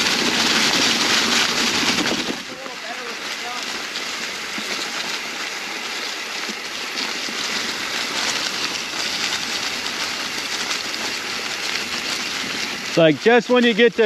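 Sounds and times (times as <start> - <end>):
bike tyres rushing through leaves: 0.0 - 14.0.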